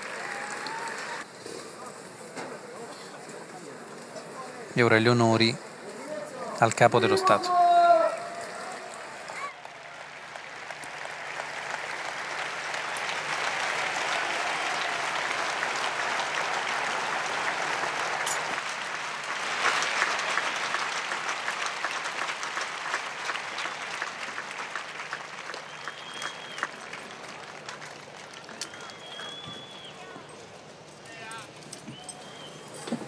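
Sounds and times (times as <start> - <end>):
large crowd applauding: 0.0 - 1.3, 6.7 - 32.6.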